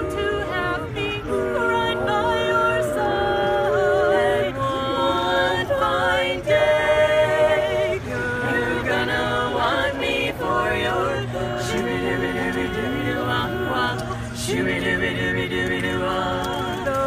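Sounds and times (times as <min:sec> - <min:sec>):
voices singing a cappella: 0:00.0 - 0:17.0.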